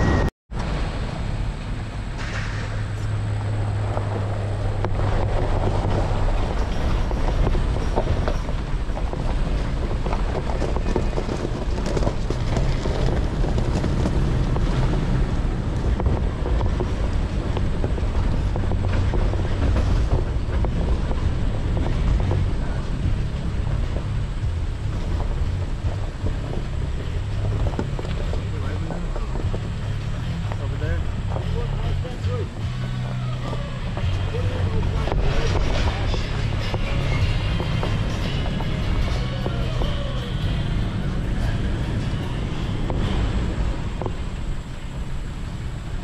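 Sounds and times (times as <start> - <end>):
truck engine and tyre rumble: 0.0 - 46.0
wind buffeting microphone: 0.0 - 46.0.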